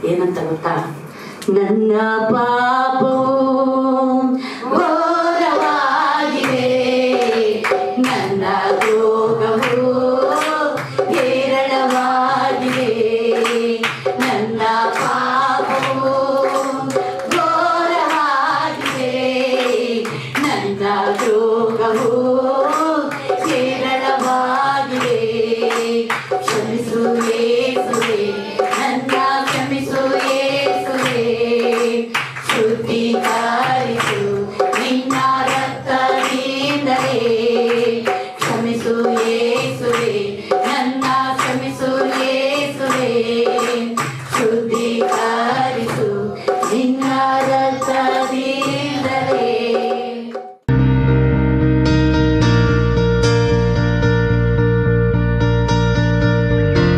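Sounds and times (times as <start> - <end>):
musical accompaniment with beat: 4.9 - 56.9
sharp percussion hits: 5.4 - 54.4.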